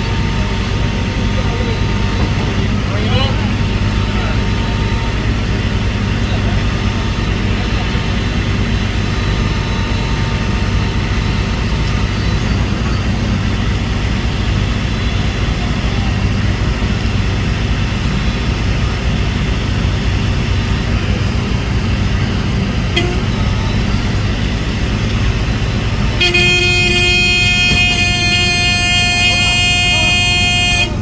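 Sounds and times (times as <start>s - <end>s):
diesel engine drone: 0.0s - 31.0s.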